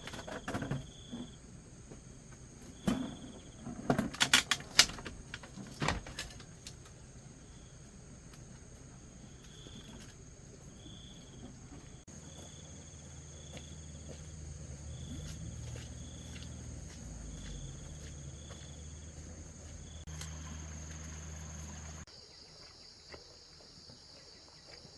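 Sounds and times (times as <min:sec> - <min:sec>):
crickets chirping: 0:00.0 - 0:24.9.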